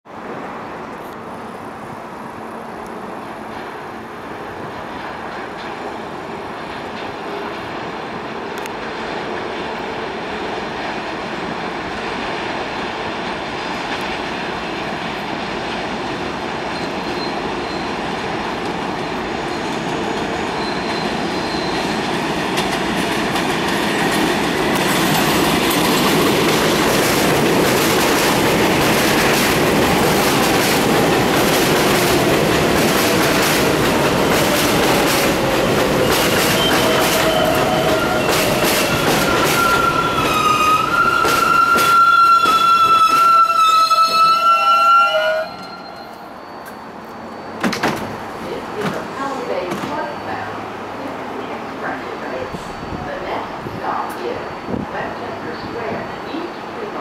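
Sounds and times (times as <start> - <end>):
subway train wheels rumbling: 0.1 - 57.0.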